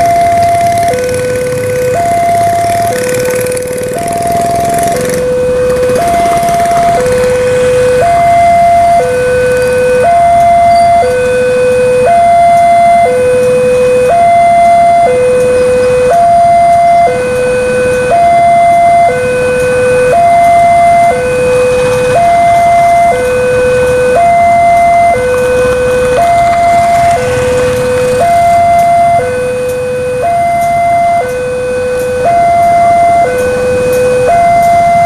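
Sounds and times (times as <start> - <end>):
diesel locomotive rumbling: 0.0 - 35.0
two-tone warning alarm: 0.0 - 35.0.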